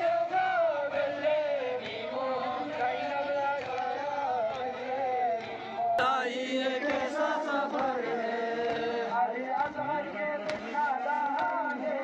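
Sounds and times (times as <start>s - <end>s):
crowd of men chanting a lament: 0.0s - 12.0s.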